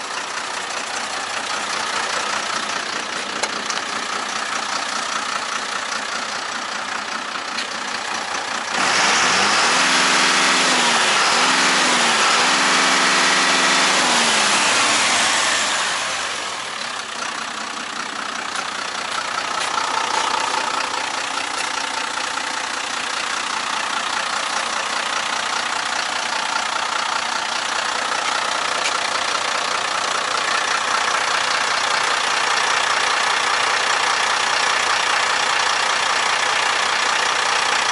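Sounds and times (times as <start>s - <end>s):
diesel truck engine idling and revving: 0.0s - 37.9s.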